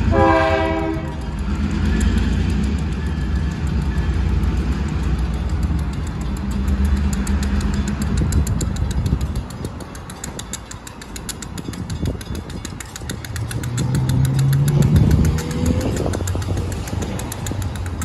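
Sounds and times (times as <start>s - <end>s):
diesel locomotive engines droning: 0.0s - 18.0s
rapid high ticking: 1.0s - 18.0s.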